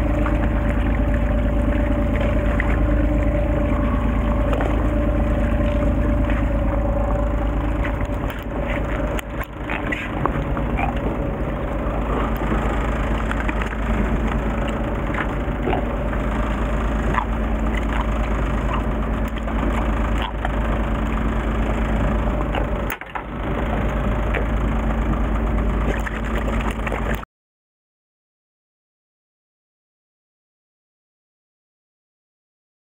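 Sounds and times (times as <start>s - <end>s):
boat engine humming: 0.0s - 27.3s.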